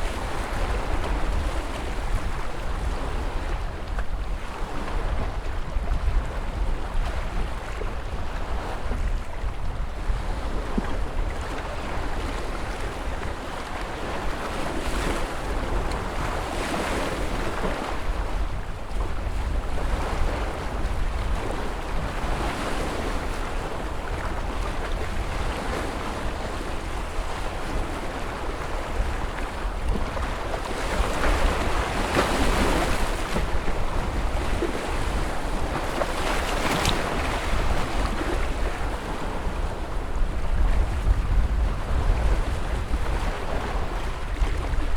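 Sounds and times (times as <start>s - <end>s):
wind noise on microphone: 0.0s - 44.9s
ocean waves breaking: 8.4s - 44.9s.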